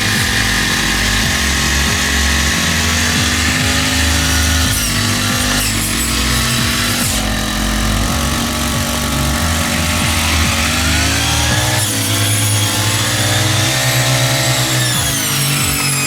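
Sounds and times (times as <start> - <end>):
small petrol engine running: 0.0 - 16.0.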